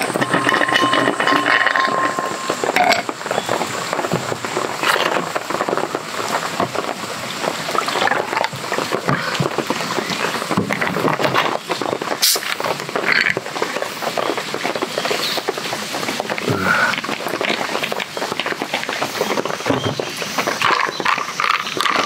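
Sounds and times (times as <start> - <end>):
carbonated drink fizzing: 0.0 - 22.0.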